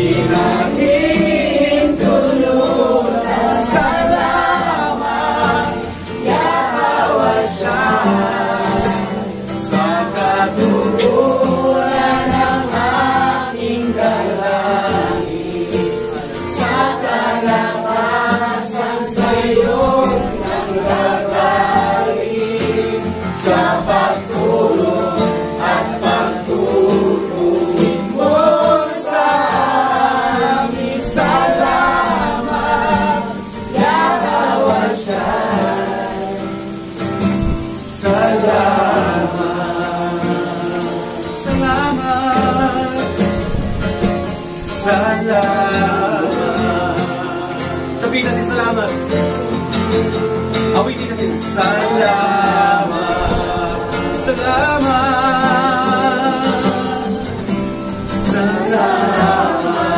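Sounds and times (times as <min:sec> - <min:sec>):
acoustic guitar: 0:00.0 - 0:59.9
congregation singing: 0:00.0 - 0:59.9.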